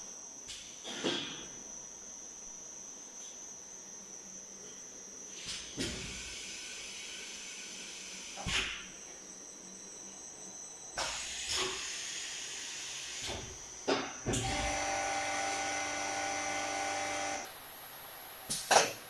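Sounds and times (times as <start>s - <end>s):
filling machine hiss and whine: 0.0s - 19.0s.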